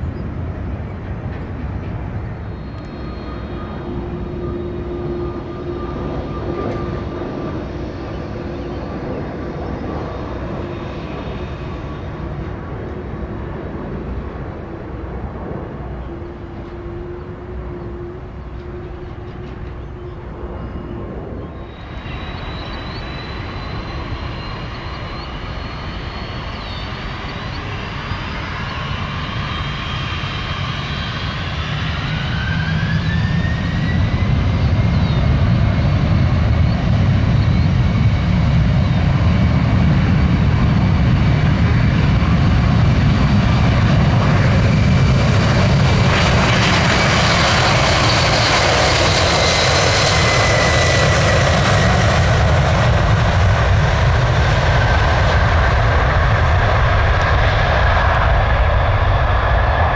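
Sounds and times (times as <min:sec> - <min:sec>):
jet engines spooling up: 0:01.2 - 0:59.9.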